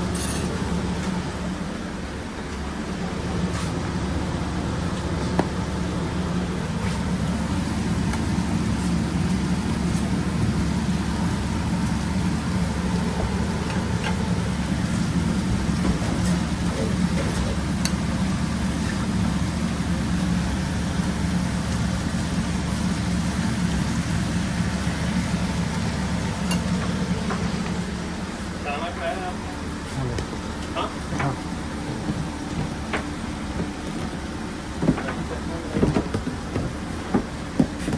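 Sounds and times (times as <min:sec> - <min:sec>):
kitchen machinery humming: 0:00.0 - 0:37.9.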